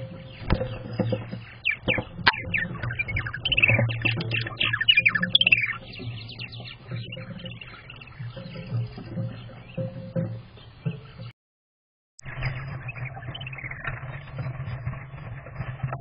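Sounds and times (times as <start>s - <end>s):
birds chirping: 0.0s - 11.4s, 12.2s - 16.0s.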